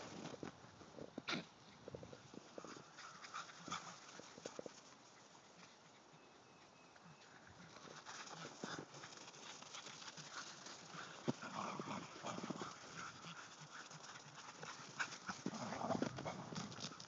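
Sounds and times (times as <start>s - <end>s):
paws crunching in snow: 0.0s - 17.0s.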